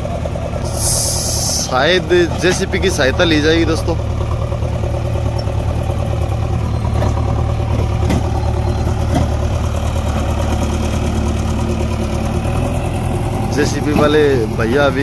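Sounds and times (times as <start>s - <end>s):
backhoe loader engine: 0.0s - 15.0s
steady engine note: 0.0s - 15.0s
tractor idling: 0.0s - 15.0s.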